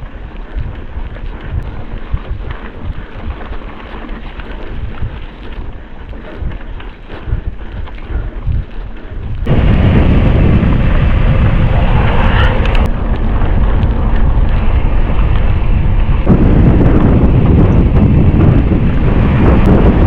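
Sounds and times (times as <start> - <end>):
bike tyre and trail noise: 0.0 - 20.0
wind buffeting microphone: 0.0 - 20.0.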